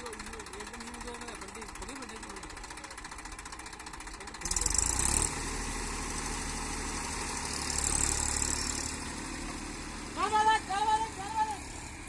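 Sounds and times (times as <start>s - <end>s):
heavy diesel engines running: 0.0s - 12.0s.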